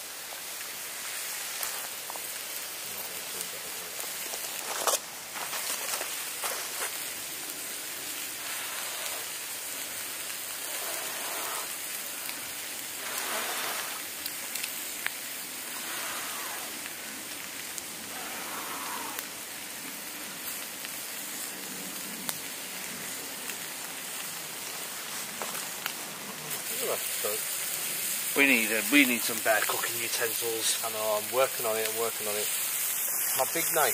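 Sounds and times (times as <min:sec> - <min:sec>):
burning wood popping: 0:00.0 - 0:33.9
campfire crackling: 0:00.0 - 0:33.9
food sizzling in a pan: 0:00.0 - 0:33.9.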